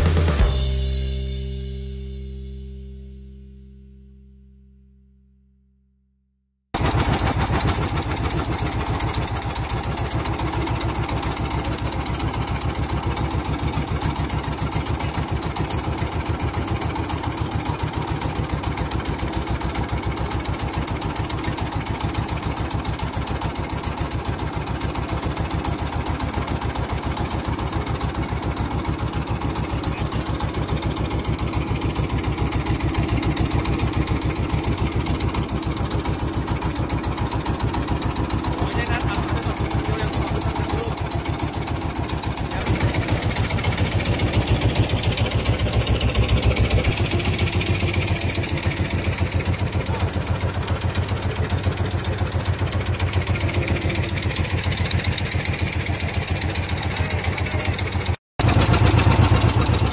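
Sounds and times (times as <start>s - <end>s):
boat engine running: 6.8s - 59.9s.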